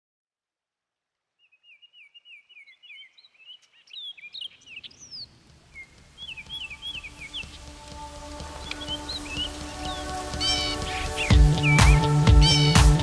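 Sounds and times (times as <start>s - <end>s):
songbirds chirping and whistling: 1.4s - 13.0s.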